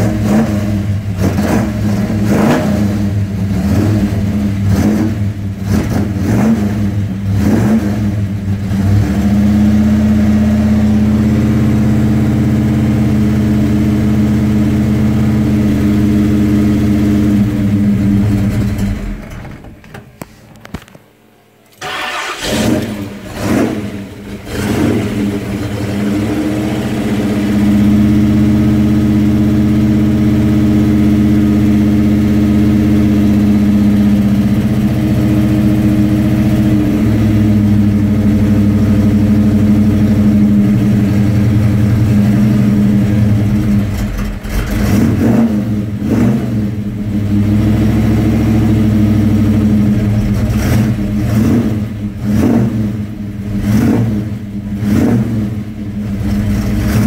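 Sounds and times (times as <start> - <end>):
car engine idling and revving: 0.0 - 20.0, 21.7 - 57.0.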